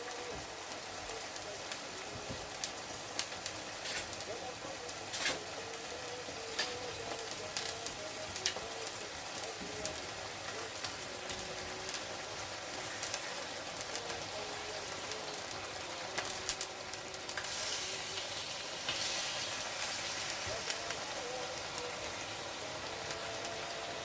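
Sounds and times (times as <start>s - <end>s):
chicken sizzling in a frying pan: 0.0s - 24.0s
oil crackling and popping: 0.0s - 24.0s.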